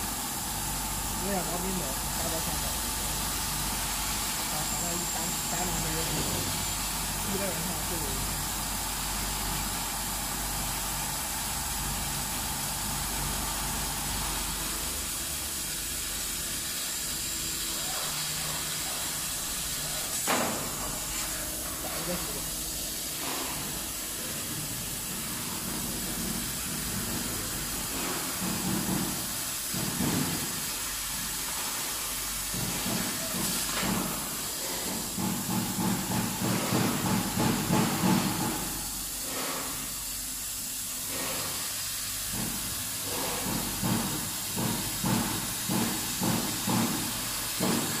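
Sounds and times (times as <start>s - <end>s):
laser cutter hissing: 0.0s - 48.0s.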